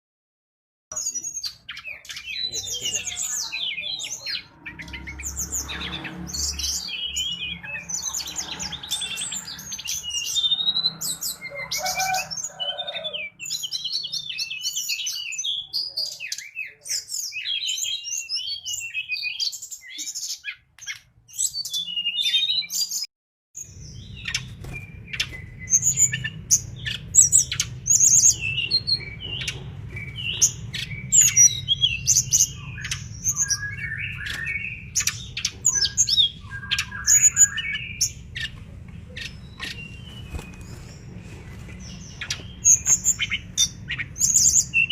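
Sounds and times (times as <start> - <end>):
bird twittering song: 0.9 - 44.9.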